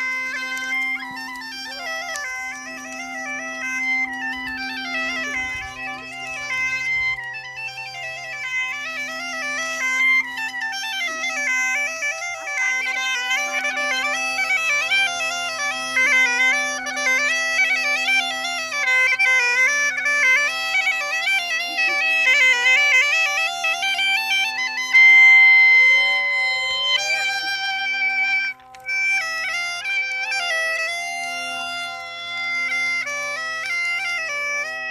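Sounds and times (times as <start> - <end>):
bagpipe drone: 0.0 - 34.9
bagpipe playing lively tune: 0.0 - 34.9.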